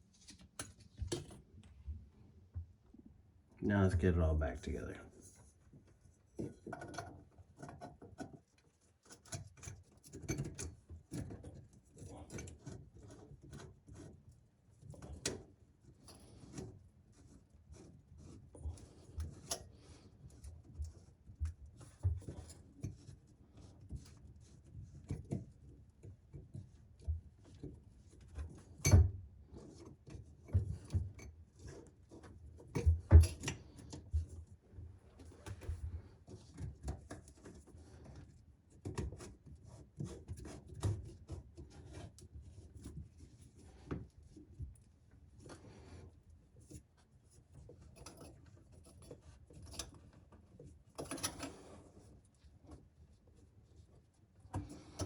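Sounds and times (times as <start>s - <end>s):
pipe fittings rubbing and clicking: 5.2s - 55.0s.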